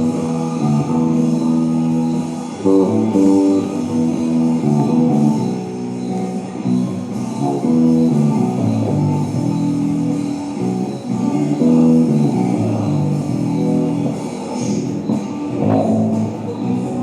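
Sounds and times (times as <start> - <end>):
electric bass plucked notes: 0.0 - 17.0.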